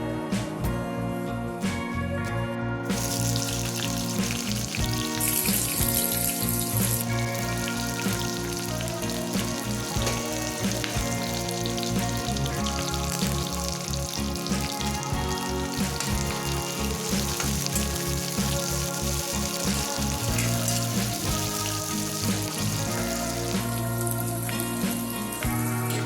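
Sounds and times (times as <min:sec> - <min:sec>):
background music with pulsing bass: 0:00.0 - 0:26.0
food sizzling in hot oil: 0:02.9 - 0:26.0.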